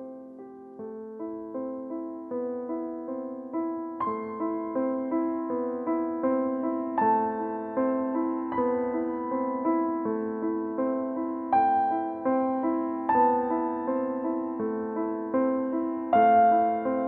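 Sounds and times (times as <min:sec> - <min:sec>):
slow piano notes: 0:00.0 - 0:17.0.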